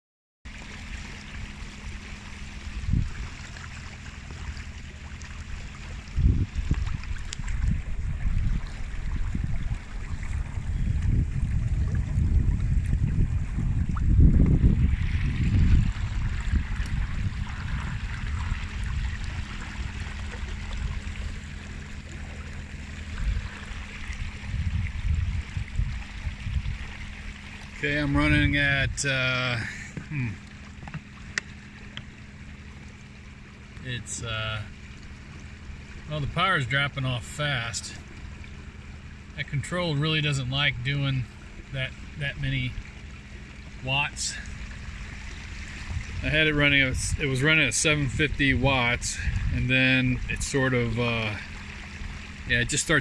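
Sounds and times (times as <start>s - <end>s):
faint steady hum: 0.5s - 53.0s
water rushing along boat: 0.5s - 53.0s
low rumble: 0.6s - 36.6s, 37.9s - 52.6s.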